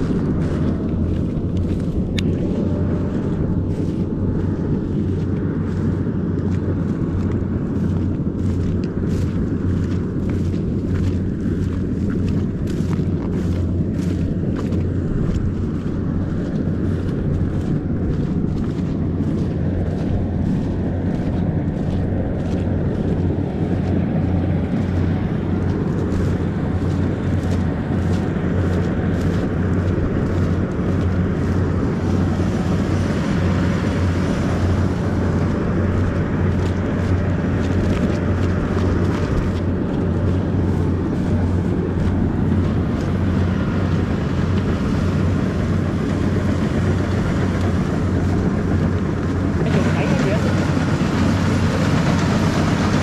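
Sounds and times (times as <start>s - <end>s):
combine harvester engine drone: 0.0s - 53.0s.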